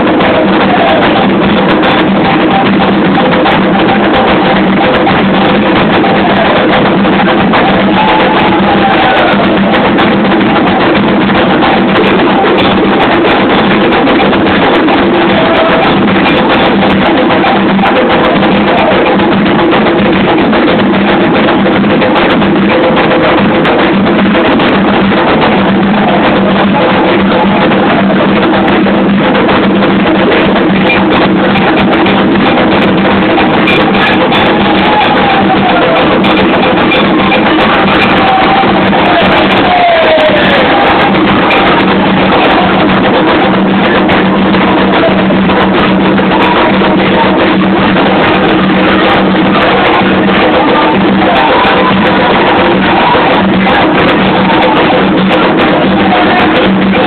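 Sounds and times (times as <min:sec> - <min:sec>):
hand drums beating: 0:00.0 - 0:57.0.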